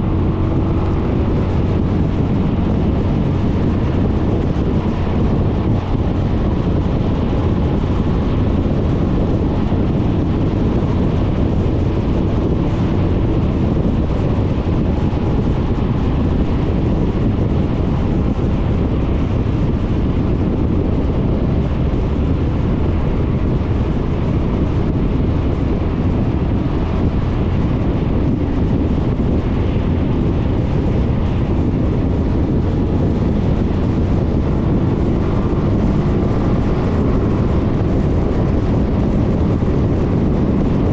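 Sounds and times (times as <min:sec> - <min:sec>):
scooter engine hum: 0:00.0 - 0:40.9
tyres on road: 0:00.0 - 0:40.9
wind buffeting microphone: 0:00.0 - 0:40.9.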